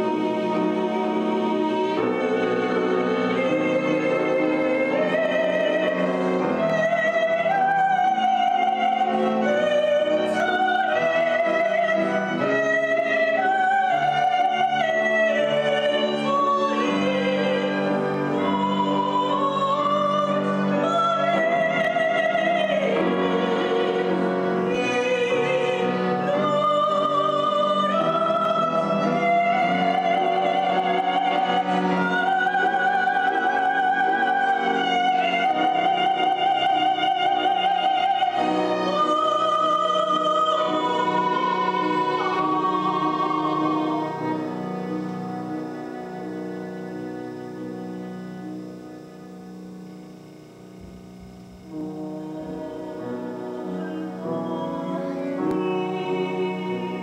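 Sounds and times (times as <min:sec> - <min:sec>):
instrumental accompaniment: 0:00.0 - 0:57.0.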